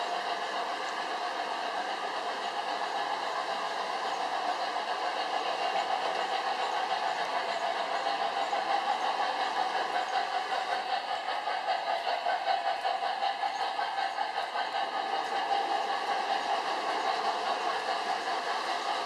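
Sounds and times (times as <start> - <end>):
model trains whirring on track: 0.0 - 19.0.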